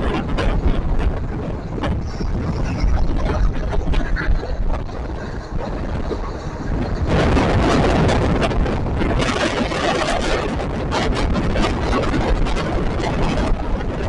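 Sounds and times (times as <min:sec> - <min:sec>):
loud rushing noise: 0:00.0 - 0:14.0
train rumble: 0:00.0 - 0:14.0
wind buffeting microphone: 0:00.0 - 0:14.0.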